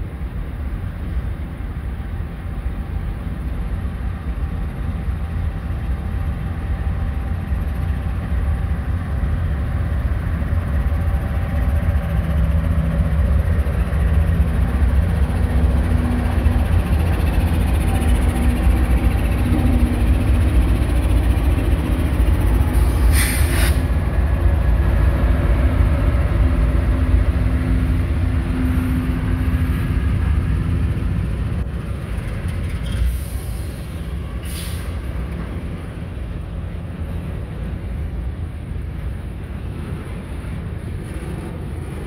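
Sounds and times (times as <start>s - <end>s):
diesel locomotive engine drone: 0.0s - 42.0s
train cars rolling over rails: 0.0s - 42.0s.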